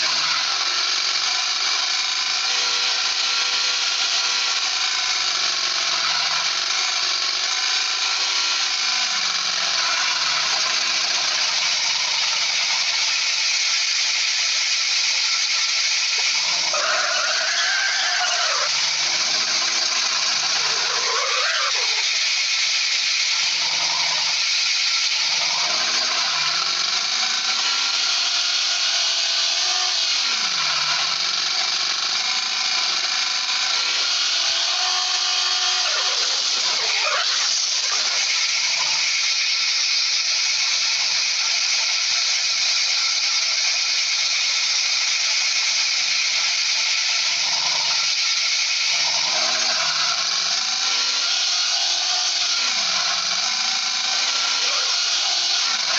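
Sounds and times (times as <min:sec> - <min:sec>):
power tool running: 0:00.0 - 0:55.9.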